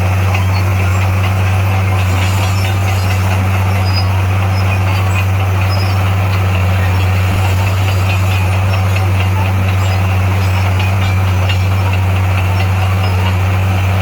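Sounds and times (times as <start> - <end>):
bulldozer diesel engine droning: 0.0 - 14.0.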